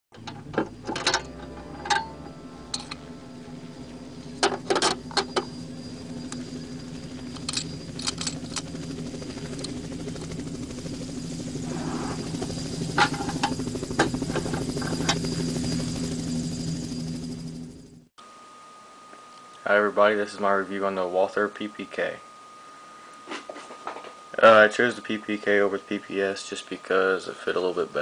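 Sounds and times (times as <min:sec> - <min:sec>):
steady low hum: 0:00.1 - 0:28.0.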